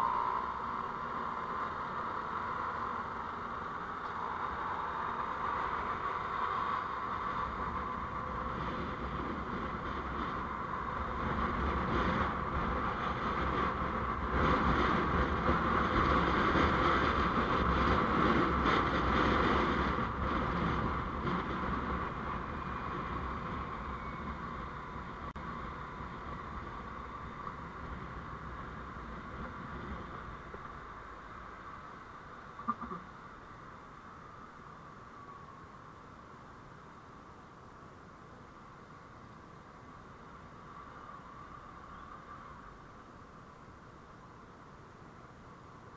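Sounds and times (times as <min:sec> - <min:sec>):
vehicle road noise: 0:00.0 - 0:45.9.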